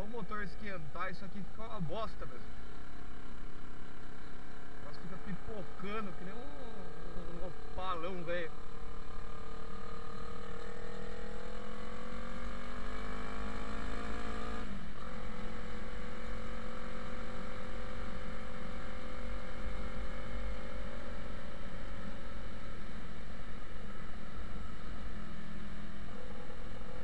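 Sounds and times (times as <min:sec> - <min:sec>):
motorcycle engine revving: 0:02.2 - 0:27.0.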